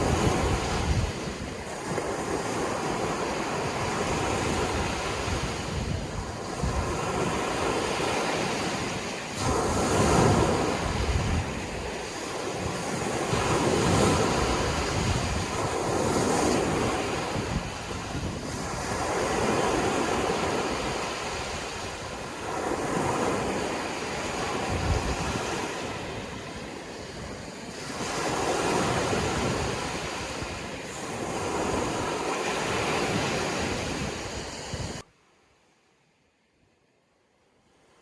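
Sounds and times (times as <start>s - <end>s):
sea waves breaking on shore: 0.0s - 35.1s.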